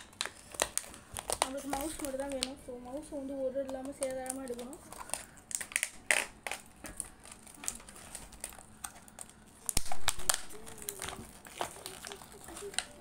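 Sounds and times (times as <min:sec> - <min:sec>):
plastic crunch: 0:00.0 - 0:13.0
plastic packaging crackling: 0:00.0 - 0:13.0.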